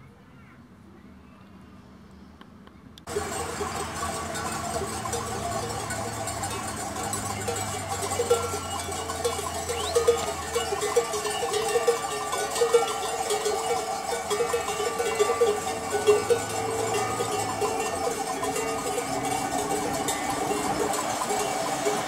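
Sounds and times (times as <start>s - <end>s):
animal bells clanking: 3.1s - 22.0s.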